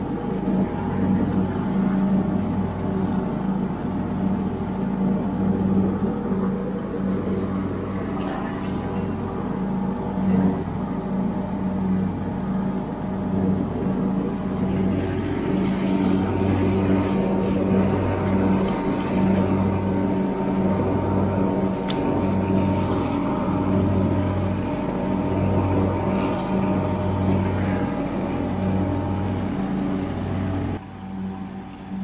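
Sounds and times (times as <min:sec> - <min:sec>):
lawn tractor engine droning: 0:00.0 - 0:32.0.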